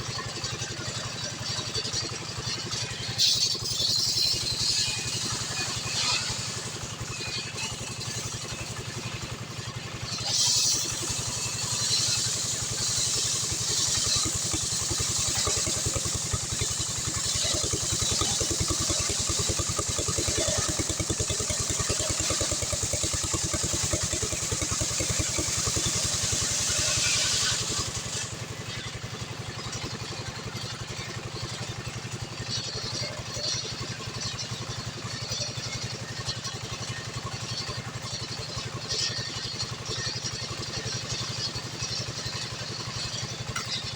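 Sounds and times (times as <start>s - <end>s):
chainsaw engine running: 0.0s - 43.9s.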